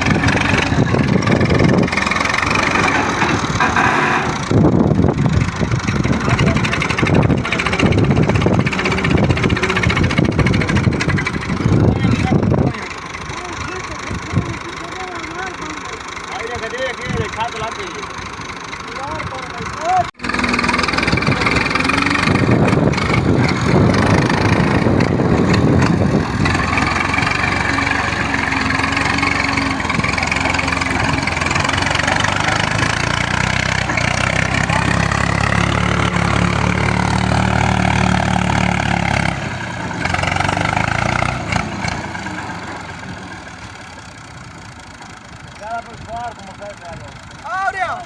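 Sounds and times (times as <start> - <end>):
tractor engine revving: 0.0 - 48.0.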